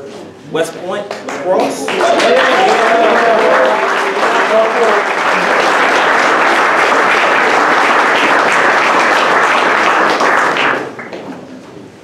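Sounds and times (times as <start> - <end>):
audience applauding: 1.1 - 11.2.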